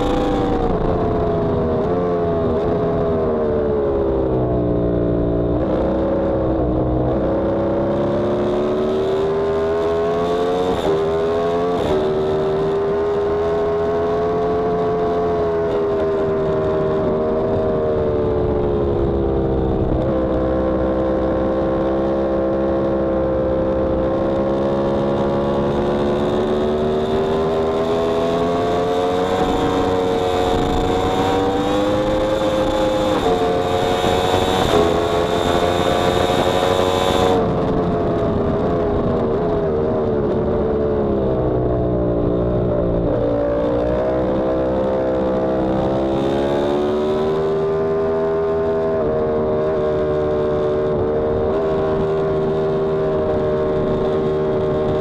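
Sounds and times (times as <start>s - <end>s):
motorcycle engine on track: 0.0s - 55.0s.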